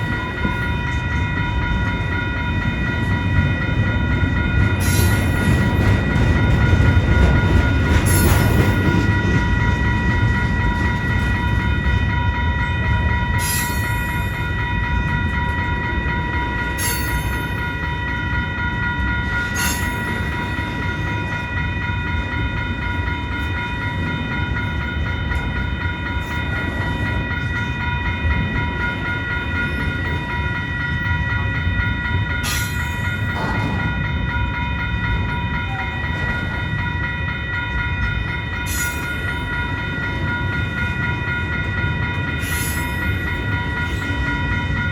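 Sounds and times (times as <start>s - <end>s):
metallic clanks from train wheels: 0.0s - 44.9s
train cars rolling past: 0.0s - 44.9s.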